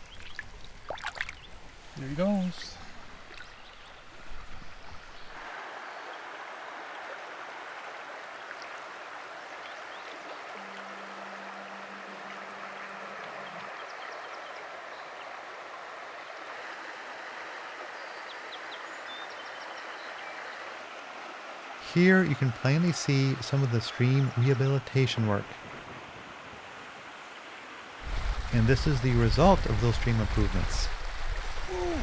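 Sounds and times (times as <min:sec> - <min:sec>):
stream water rushing over stones: 0:00.0 - 0:32.0.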